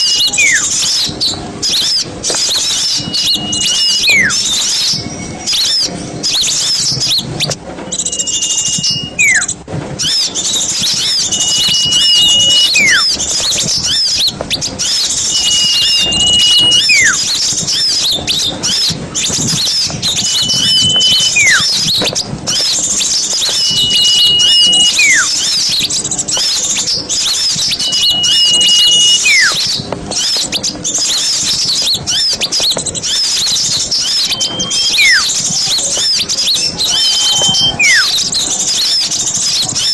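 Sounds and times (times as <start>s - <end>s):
whistle sliding downward: 0.0s - 1.1s, 1.7s - 14.2s, 14.8s - 18.1s, 18.7s - 29.8s, 33.0s - 39.1s
clear held whistle: 0.0s - 30.4s, 31.0s - 39.9s
chatter of small birds: 0.0s - 39.9s.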